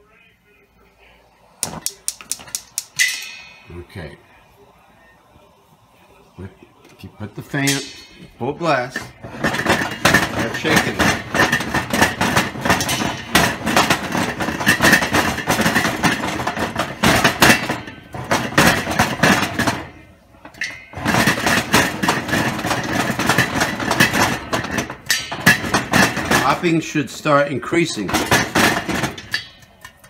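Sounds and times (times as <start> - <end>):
metal pot rattling on stove: 1.6 - 4.1, 6.4 - 30.0.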